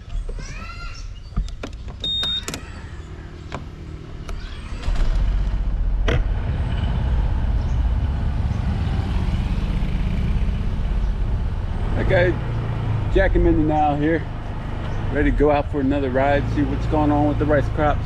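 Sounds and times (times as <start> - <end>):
vehicle engine running: 2.9 - 18.0.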